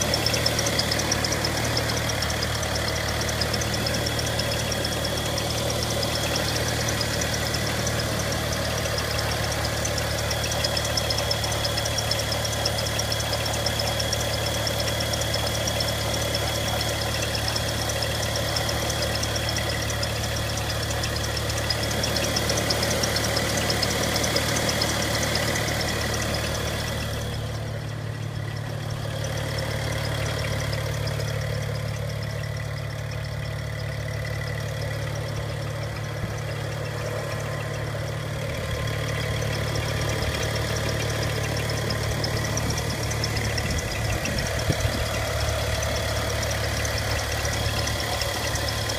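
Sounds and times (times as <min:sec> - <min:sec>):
car engine idling: 0:00.0 - 0:48.9
fast ticking from engine: 0:00.0 - 0:48.9.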